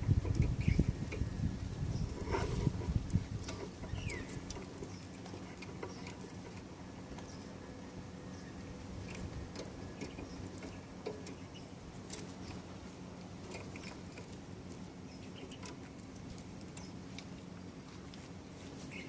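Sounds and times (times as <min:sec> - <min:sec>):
light clicks and patter: 0:00.0 - 0:07.5, 0:09.0 - 0:19.0
steady low hum: 0:00.0 - 0:19.0.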